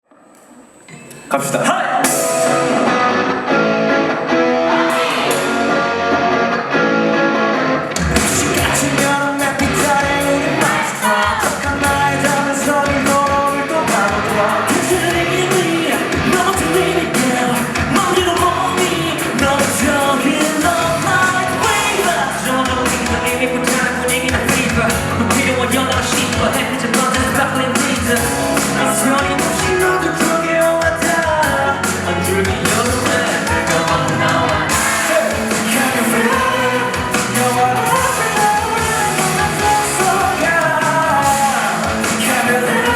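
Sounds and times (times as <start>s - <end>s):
drums: 0.0s - 42.9s
rock band playing live: 1.0s - 42.9s
person singing: 1.3s - 6.4s, 8.0s - 42.9s
bass guitar: 2.0s - 42.9s.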